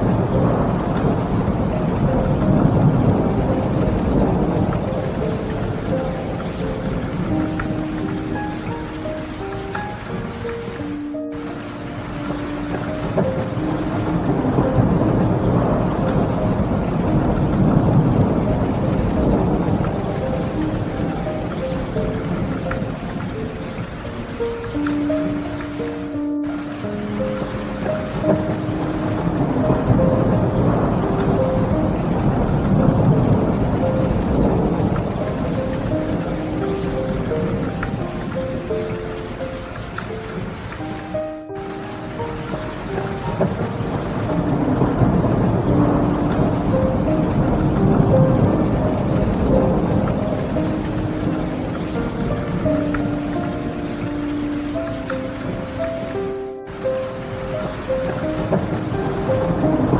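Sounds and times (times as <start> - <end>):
rolling thunder: 0.0 - 59.9
soft ambient music: 0.0 - 59.9
steady rain: 0.0 - 59.9.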